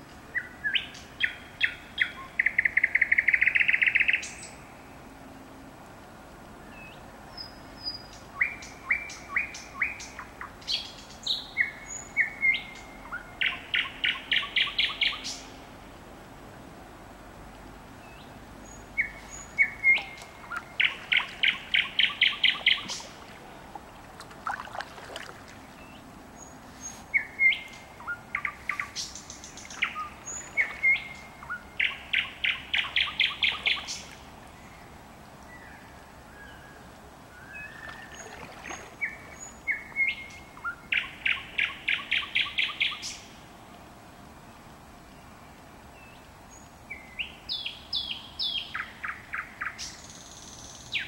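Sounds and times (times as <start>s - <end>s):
songbird singing: 0.0s - 16.3s, 17.0s - 51.0s.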